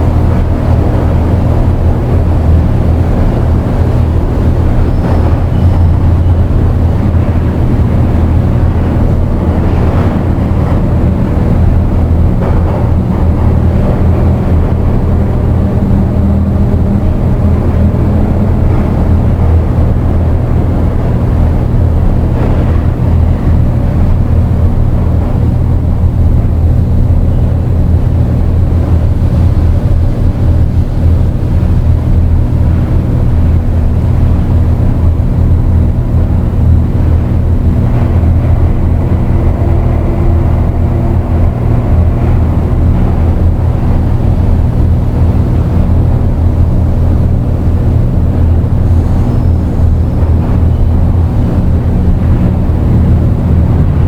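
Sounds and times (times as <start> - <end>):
dark ambient drone music: 0.0 - 54.0.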